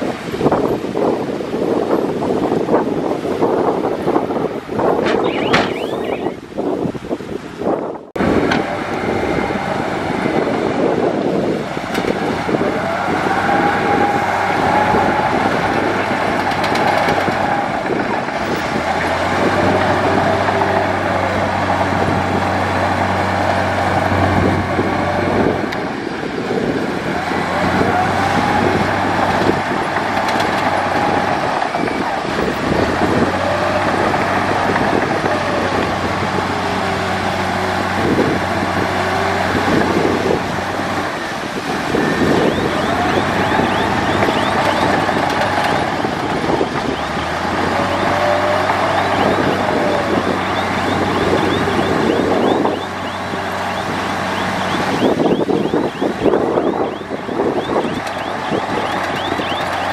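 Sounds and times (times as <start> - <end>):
bulldozer diesel engine running: 0.0 - 7.5, 8.2 - 59.9
drawn-out squeals: 4.0 - 6.6, 9.0 - 59.9.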